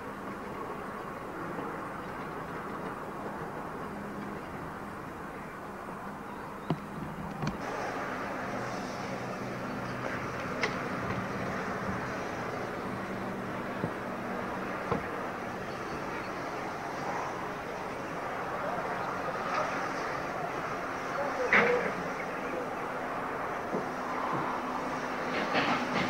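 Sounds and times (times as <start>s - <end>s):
locomotive humming and hissing: 0.0s - 26.0s.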